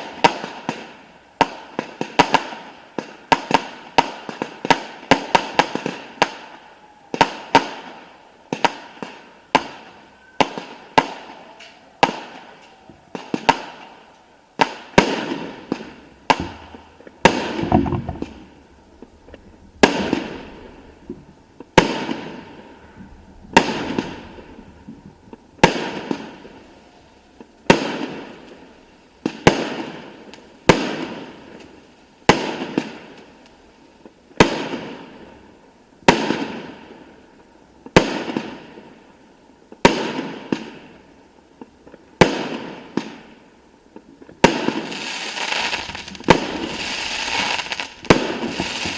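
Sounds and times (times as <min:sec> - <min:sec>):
fireworks bursting: 0:00.0 - 0:35.4, 0:44.1 - 0:48.9.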